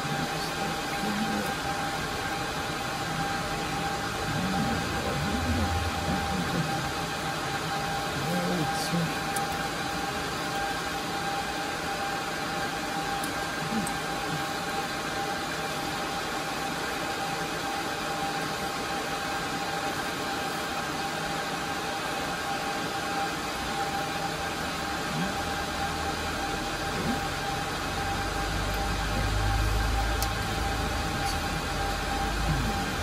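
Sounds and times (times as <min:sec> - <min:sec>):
server cooling fans whirring: 0:00.0 - 0:33.0.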